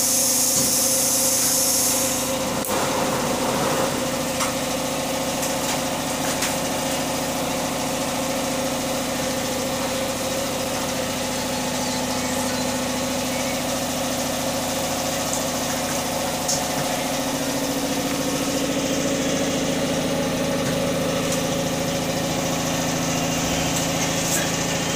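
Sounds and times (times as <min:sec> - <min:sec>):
motor humming: 0:01.4 - 0:24.9.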